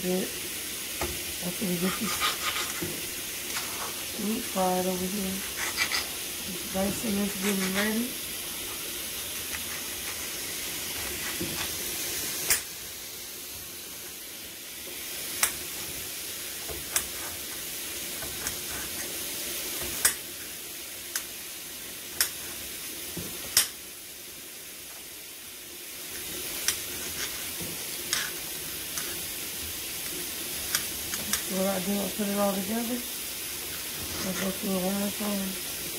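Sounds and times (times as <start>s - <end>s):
food sizzling in a pan: 0.0s - 35.9s.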